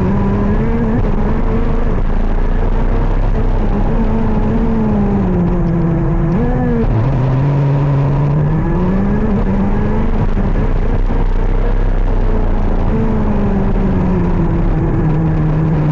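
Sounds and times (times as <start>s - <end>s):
kart two-stroke engine revving: 0.0s - 15.9s.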